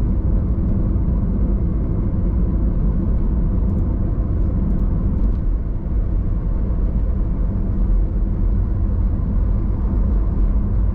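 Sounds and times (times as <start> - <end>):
car engine and tyres rumbling: 0.0 - 10.9.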